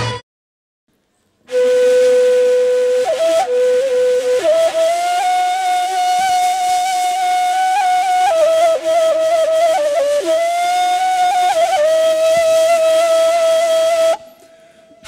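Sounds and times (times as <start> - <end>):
solo flute folk melody: 1.4 - 15.0.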